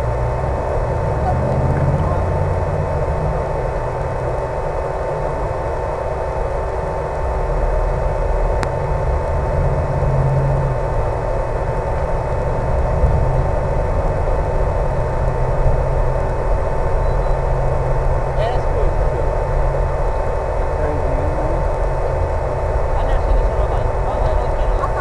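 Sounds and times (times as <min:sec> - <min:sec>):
wind rumble: 0:00.0 - 0:25.0.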